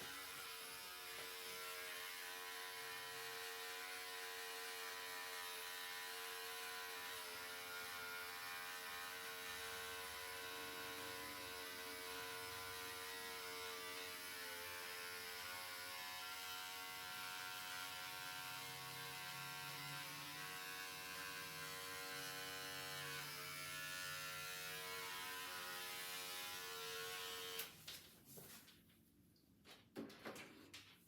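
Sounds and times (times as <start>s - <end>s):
electric hair clippers buzzing: 0.0s - 27.8s.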